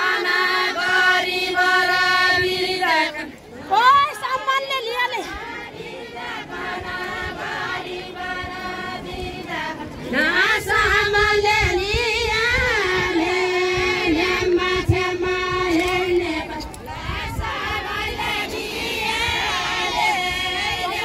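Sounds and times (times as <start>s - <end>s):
women singing folk song: 0.0s - 21.0s.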